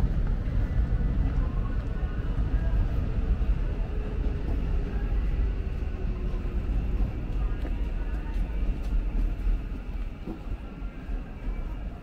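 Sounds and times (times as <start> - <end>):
street ambience: 0.0 - 12.0.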